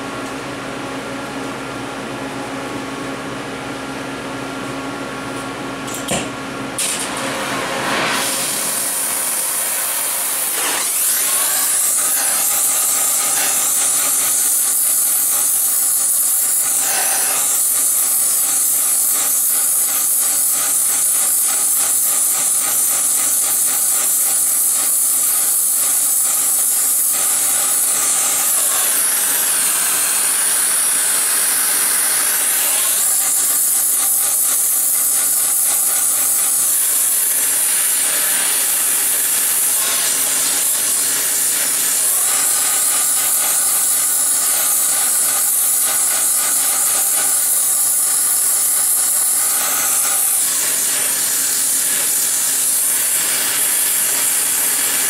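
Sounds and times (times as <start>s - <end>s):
torch flame hissing: 7.9s - 55.0s.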